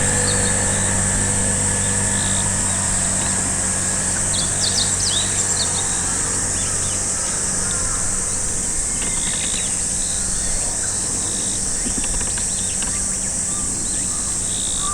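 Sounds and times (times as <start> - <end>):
songbirds chirping: 0.0 - 14.9.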